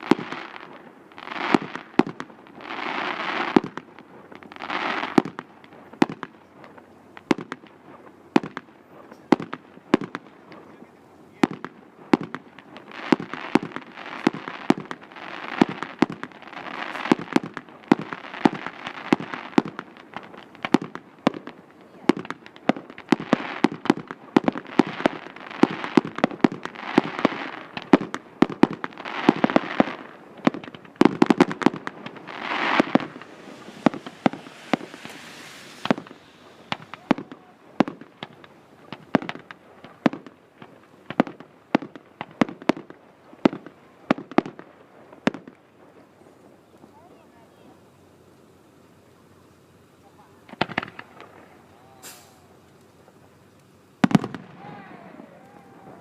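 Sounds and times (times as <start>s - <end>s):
fireworks bangs: 0.0s - 47.7s, 50.0s - 56.0s
hissing crackle of fireworks: 0.0s - 56.0s.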